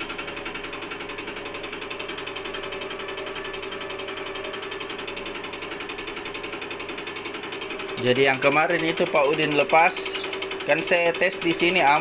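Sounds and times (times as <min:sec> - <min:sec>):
injector ticking rapidly: 0:00.0 - 0:12.0
test bench hum: 0:00.0 - 0:12.0.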